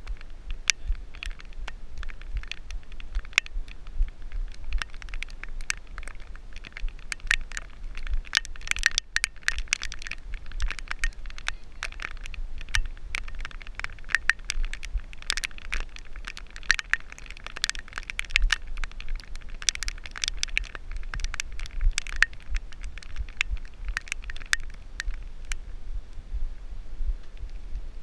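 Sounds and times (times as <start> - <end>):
wind on microphone: 0.0 - 28.0.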